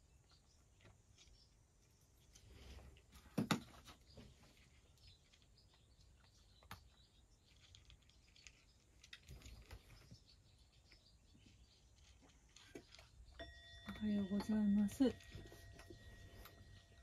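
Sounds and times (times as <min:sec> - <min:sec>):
cat crunching dry kibble: 0:00.0 - 0:14.0.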